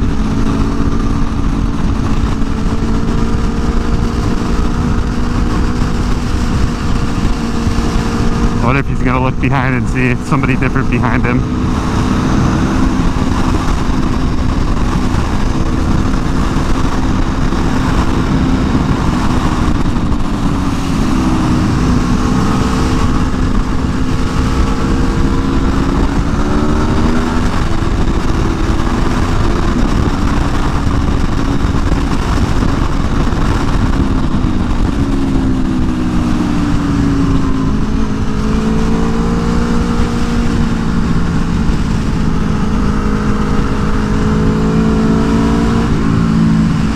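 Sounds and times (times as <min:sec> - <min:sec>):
motorcycle engine revving: 0:00.0 - 0:46.9
wind noise: 0:00.0 - 0:46.9.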